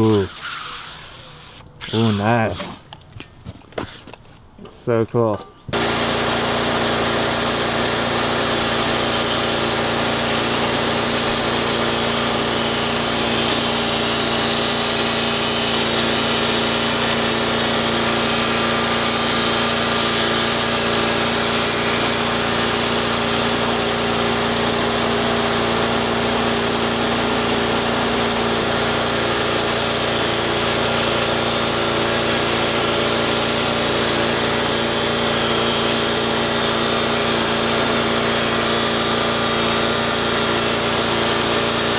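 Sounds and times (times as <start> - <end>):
bandsaw cutting through log: 0.0 - 2.9, 5.7 - 41.9.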